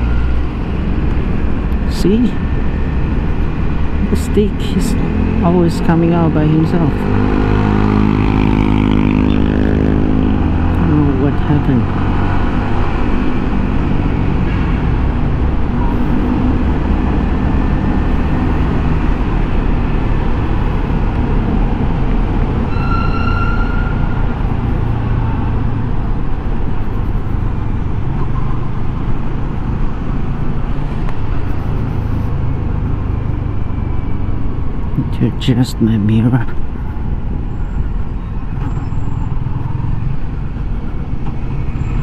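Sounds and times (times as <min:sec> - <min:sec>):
wind and road rush: 0:00.0 - 0:42.0.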